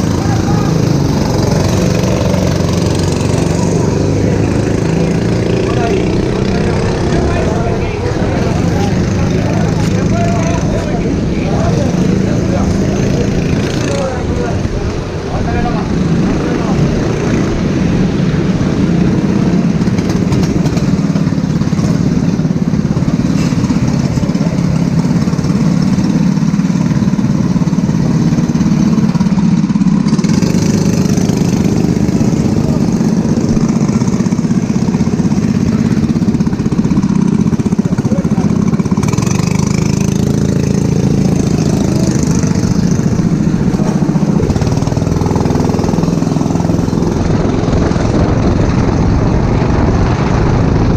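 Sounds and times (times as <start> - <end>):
go-kart engine running: 0.0 - 50.9.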